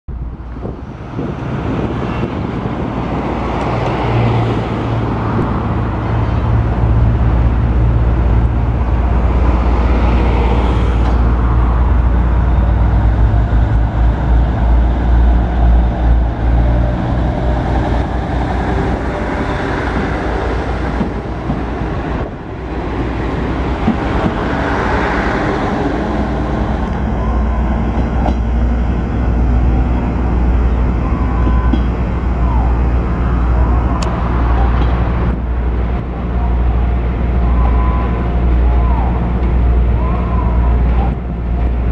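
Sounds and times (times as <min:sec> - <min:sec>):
diesel railcar engine passing: 0:00.1 - 0:41.9.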